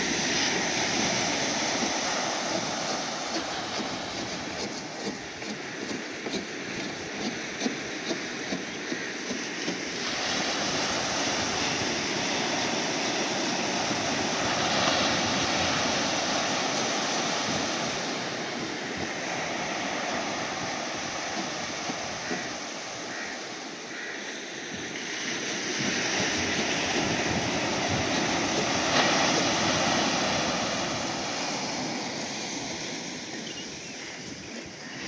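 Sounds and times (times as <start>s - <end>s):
ocean surf breaking on shore: 0.0s - 35.0s.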